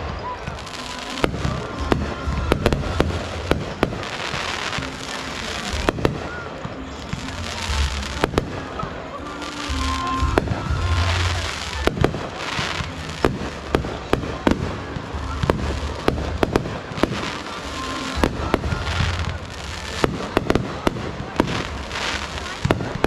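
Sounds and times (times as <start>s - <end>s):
hissing crackle: 0.0s - 23.0s.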